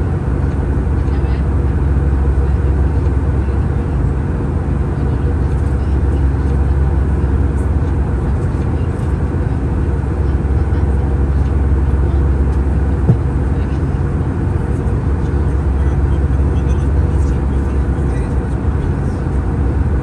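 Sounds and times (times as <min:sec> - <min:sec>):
airplane cabin engine and airflow: 0:00.0 - 0:20.0.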